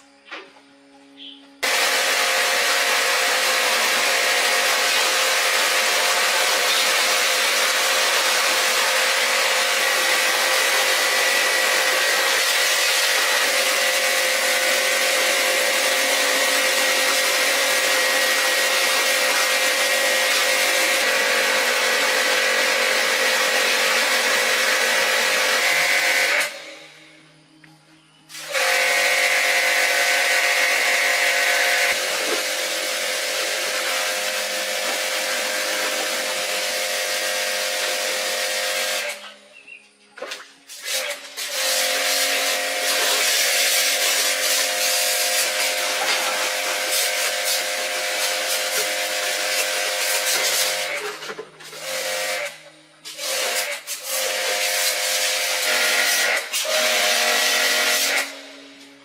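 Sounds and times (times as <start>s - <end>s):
power tool running: 1.5s - 27.3s, 28.3s - 39.4s, 40.7s - 59.0s.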